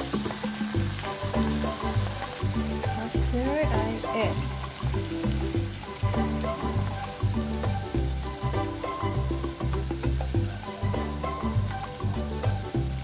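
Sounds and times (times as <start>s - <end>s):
food sizzling in hot wok: 0.0s - 13.0s
music with heavy bass beat: 0.0s - 13.0s.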